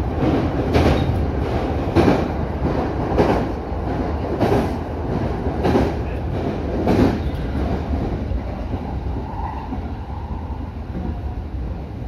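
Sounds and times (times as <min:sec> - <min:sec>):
train wheels rumbling on rail: 0:00.0 - 0:12.0
train wheels clattering: 0:00.1 - 0:09.9.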